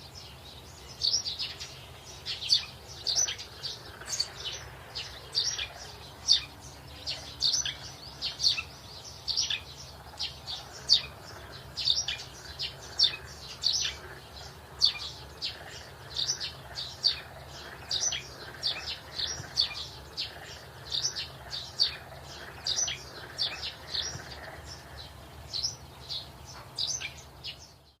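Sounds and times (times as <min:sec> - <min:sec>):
faint low hum: 0:00.0 - 0:27.9
small birds chirping rapidly: 0:00.0 - 0:28.0.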